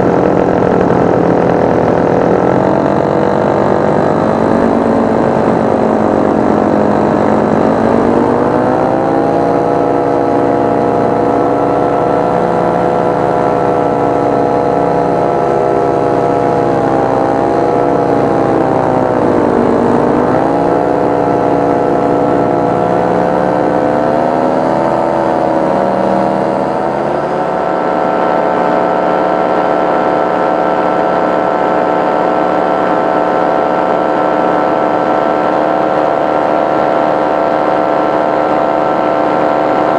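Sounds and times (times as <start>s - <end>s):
paraglider engine and propeller: 0.0s - 39.9s.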